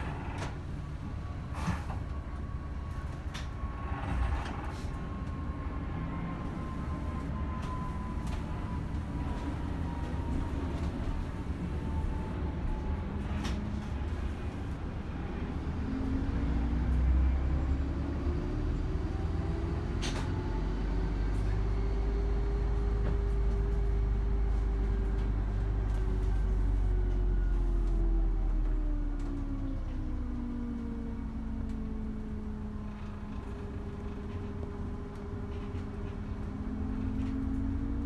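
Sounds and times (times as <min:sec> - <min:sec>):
bus engine rumble and whine: 0:00.0 - 0:38.0.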